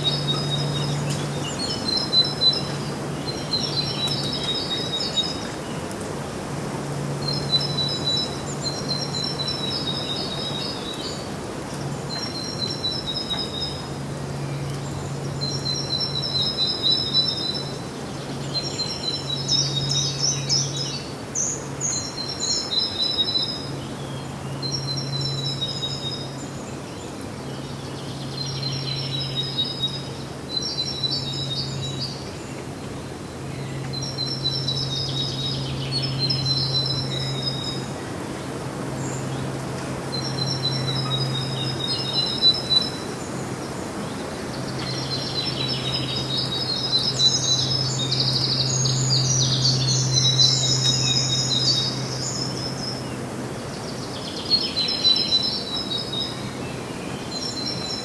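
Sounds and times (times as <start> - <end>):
bird song: 0.0 - 58.0.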